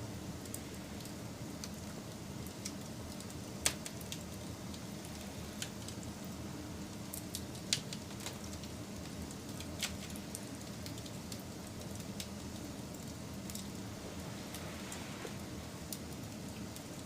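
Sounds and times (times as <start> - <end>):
wood fire crackling and popping: 0.3 - 17.0.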